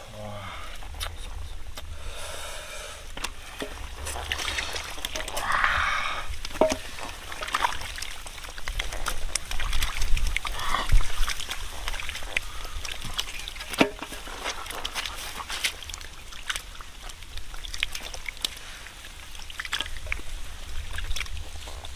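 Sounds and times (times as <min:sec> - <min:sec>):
hands squelching through fish: 0:03.0 - 0:21.9
fish slapping on wet mud: 0:03.1 - 0:21.9.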